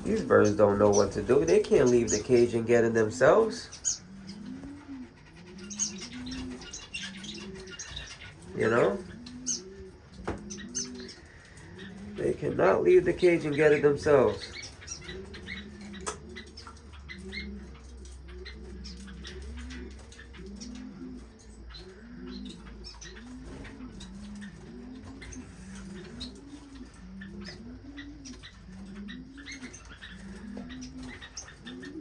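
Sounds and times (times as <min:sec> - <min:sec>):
dove cooing: 0:00.0 - 0:32.0
finches chirping: 0:00.0 - 0:32.0.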